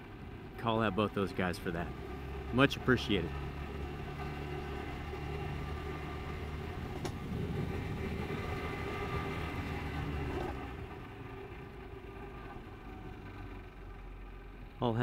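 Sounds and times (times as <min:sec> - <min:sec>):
scooter engine running: 0:00.0 - 0:13.1
road and wind noise: 0:00.0 - 0:15.0.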